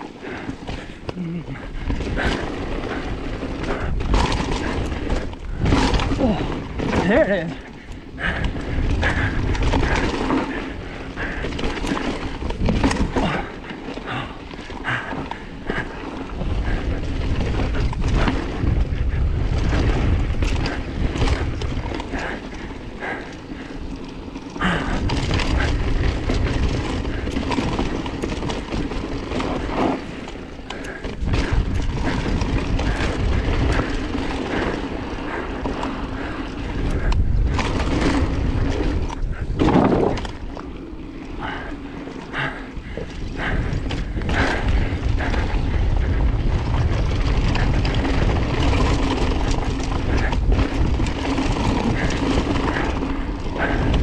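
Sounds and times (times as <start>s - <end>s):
bike rattling over bumps: 0.0s - 54.0s
bike tyres crunching over stones: 0.0s - 54.0s
wind rumble on microphone: 0.0s - 54.0s.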